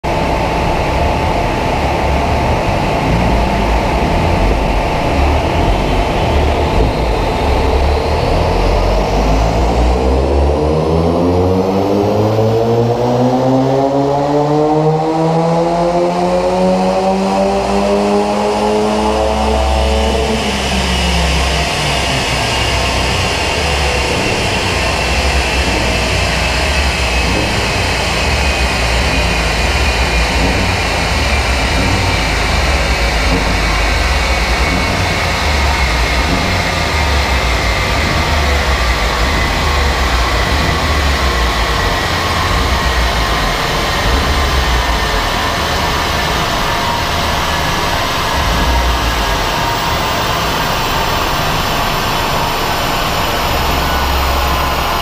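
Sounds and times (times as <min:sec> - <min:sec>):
car engine revving under load: 0:00.0 - 0:55.0
steady rushing noise with whine: 0:00.0 - 0:55.0.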